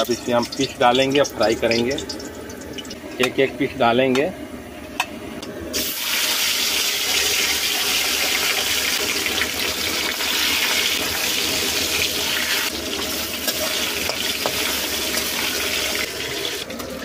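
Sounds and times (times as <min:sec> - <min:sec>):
fish sizzling in hot oil: 0:00.0 - 0:03.2, 0:05.7 - 0:16.8.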